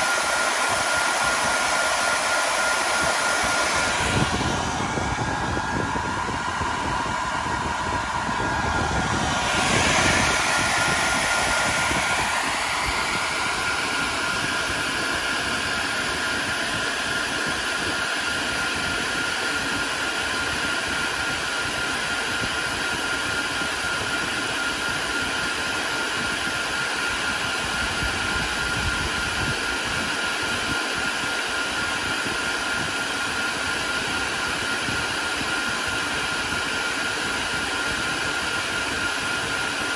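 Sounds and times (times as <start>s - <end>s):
cooling fans whirring: 0.0s - 39.9s.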